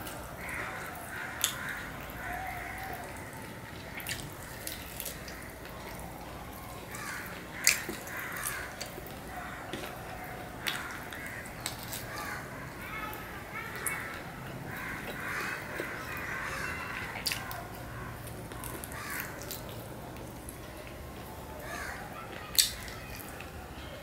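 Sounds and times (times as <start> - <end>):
fingers squelching food: 0.1 - 20.5.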